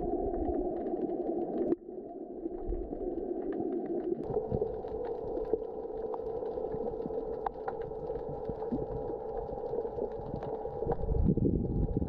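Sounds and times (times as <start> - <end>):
small clicks and crackles: 0.0 - 1.8, 2.5 - 12.0
muffled underwater hum: 0.0 - 12.0.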